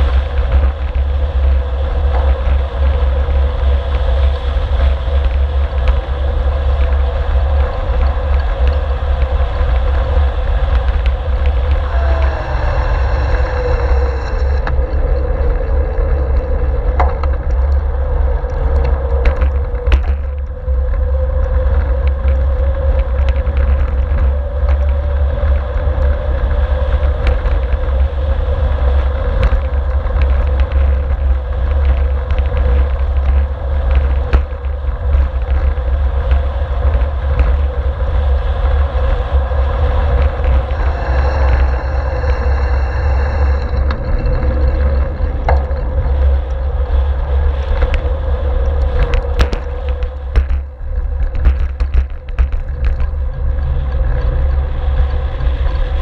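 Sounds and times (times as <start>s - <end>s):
sharp clicks from road bumps: 0.0s - 56.0s
wind rumbling on microphone: 0.0s - 56.0s.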